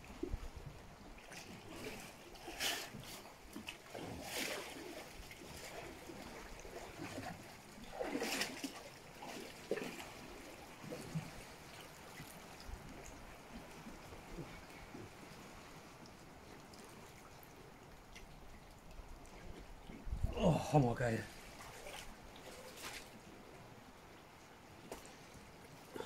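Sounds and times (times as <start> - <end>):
waves lapping on rocks and pebbles: 0.2 - 17.5, 20.2 - 26.0.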